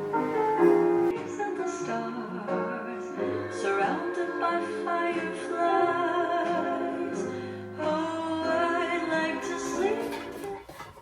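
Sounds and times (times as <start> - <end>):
person singing: 1.1 - 10.8.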